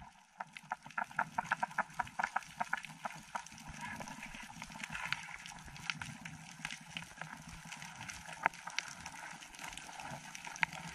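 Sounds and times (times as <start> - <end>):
low rumble of moving water: 0.0 - 10.9
underwater clicks and crackles: 0.0 - 10.9.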